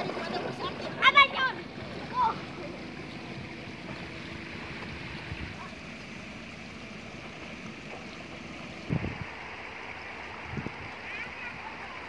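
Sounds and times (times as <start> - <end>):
shallow river flowing over stones: 0.0 - 12.0.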